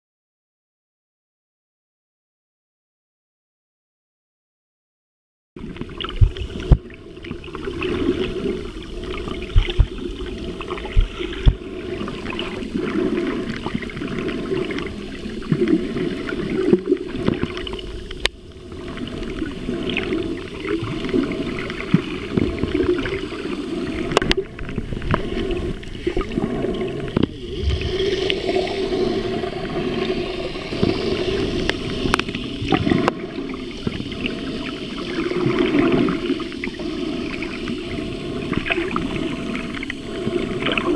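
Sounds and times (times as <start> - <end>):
water gurgling underwater: 5.6 - 40.9.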